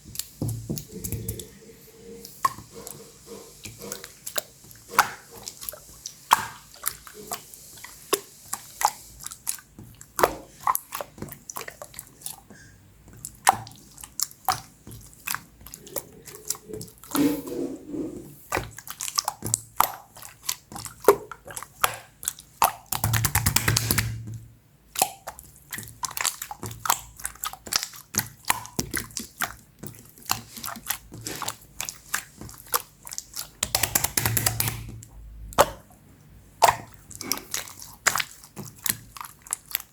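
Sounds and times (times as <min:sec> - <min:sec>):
slime squishing wet clicks: 0:00.0 - 0:01.6, 0:02.2 - 0:17.5, 0:18.4 - 0:39.9.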